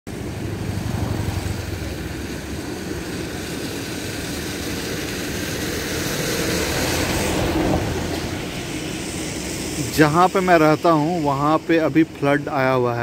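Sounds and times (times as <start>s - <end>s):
floodwater rushing: 0.1s - 13.0s.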